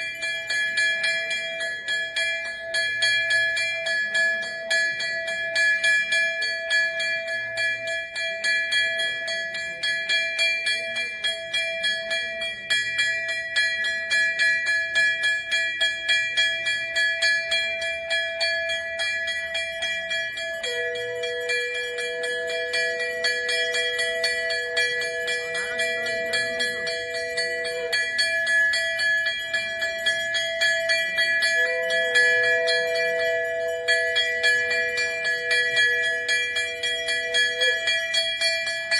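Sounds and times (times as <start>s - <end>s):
hand bell ringing rapidly: 0.0s - 38.9s.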